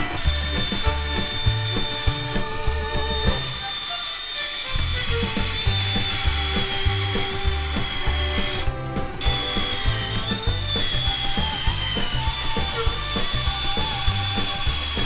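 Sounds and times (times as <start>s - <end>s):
country music: 0.0s - 4.0s, 4.6s - 15.0s
band saw cutting metal: 0.0s - 15.0s.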